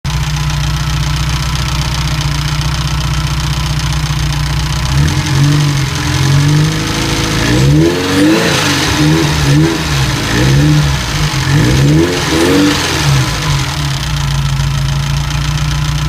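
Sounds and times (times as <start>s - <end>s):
car engine idling and revving: 0.1s - 16.0s
engine ticking: 0.1s - 16.0s.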